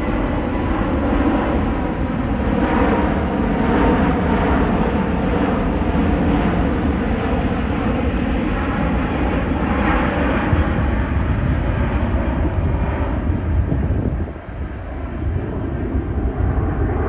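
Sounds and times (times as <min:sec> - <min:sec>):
jet airliner roar: 0:00.0 - 0:17.0.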